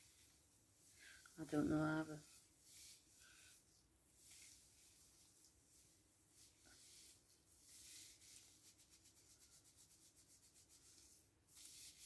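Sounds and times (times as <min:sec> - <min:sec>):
gloved hands rubbing wet hair: 0:00.0 - 0:12.0.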